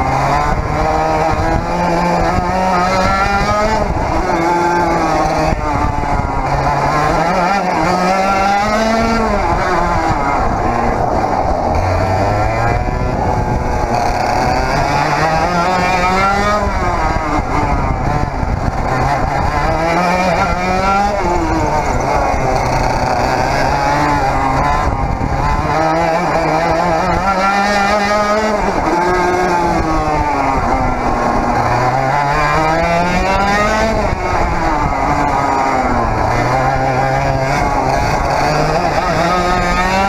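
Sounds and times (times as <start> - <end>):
kart engine revving: 0.0 - 40.0.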